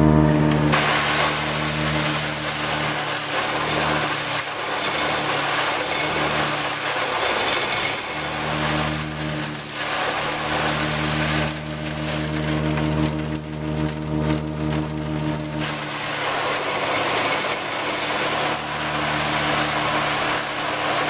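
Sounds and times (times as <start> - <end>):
forage blower drone: 0.0 - 21.0
hiss of silage rushing: 0.7 - 12.4, 15.6 - 21.0.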